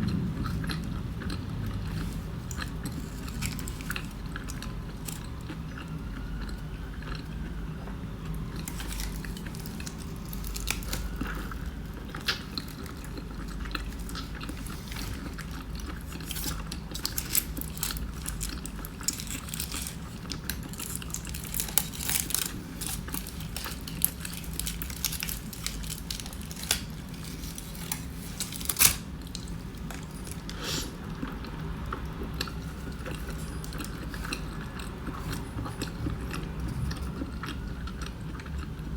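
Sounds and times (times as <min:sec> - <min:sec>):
person chewing food: 0:00.0 - 0:38.9
steady low hum: 0:00.0 - 0:38.9.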